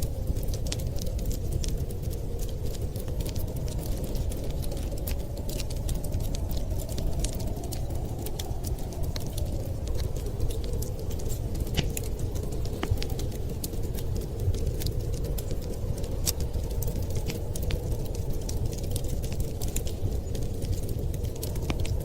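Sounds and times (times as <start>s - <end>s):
low rumble of wind: 0.0s - 22.0s
wood fire crackling: 0.0s - 22.0s.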